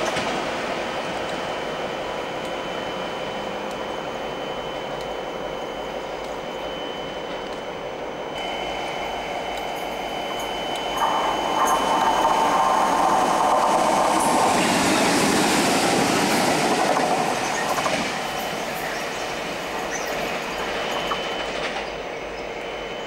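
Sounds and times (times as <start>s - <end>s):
diesel locomotive passing: 0.0s - 23.0s
train wheels on rails: 0.0s - 23.0s.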